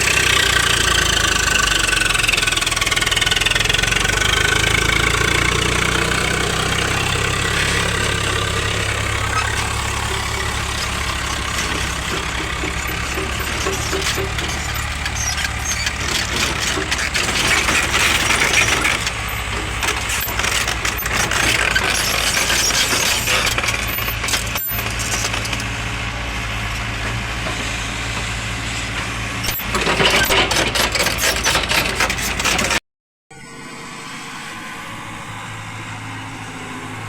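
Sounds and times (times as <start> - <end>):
heavy diesel engine running: 0.0 - 32.8.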